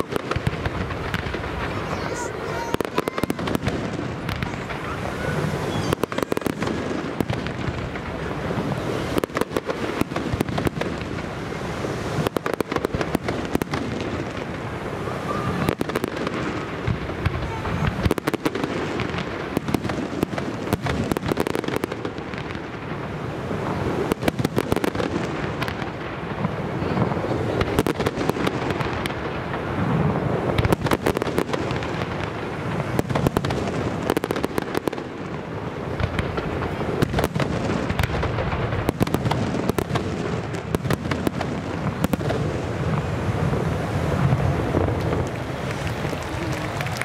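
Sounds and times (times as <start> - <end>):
fireworks bursting with bangs: 0.0 - 47.0
fireworks crackling: 0.0 - 47.0.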